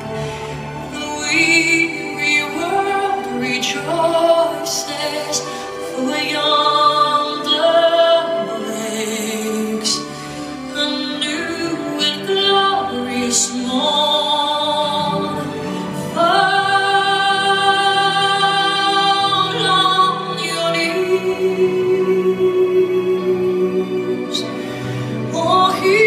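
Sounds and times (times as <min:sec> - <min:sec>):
musical accompaniment: 0:00.0 - 0:26.0
woman singing slow song: 0:00.7 - 0:24.5.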